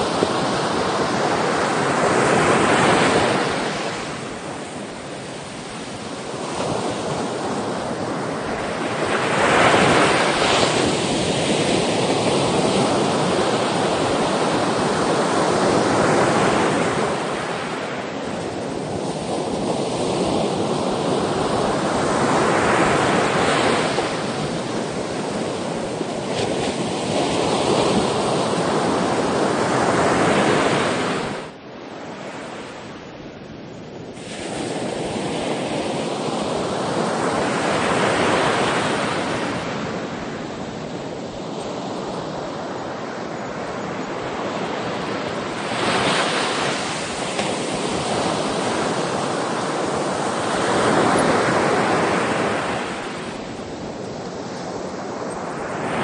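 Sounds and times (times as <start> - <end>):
sea waves breaking on shore: 0.0 - 33.2, 34.0 - 56.0.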